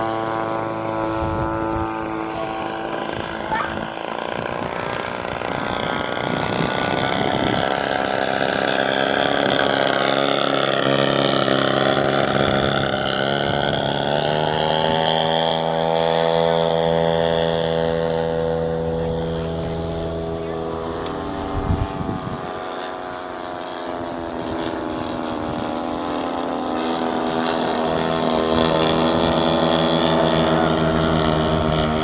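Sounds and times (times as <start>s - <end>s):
model airplane engine and propeller: 0.0s - 32.0s.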